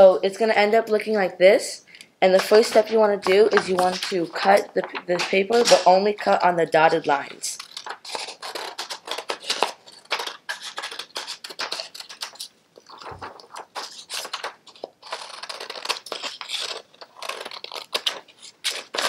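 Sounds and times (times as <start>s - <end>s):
paper rustling: 2.2s - 19.0s
scissors snipping paper: 2.4s - 19.0s.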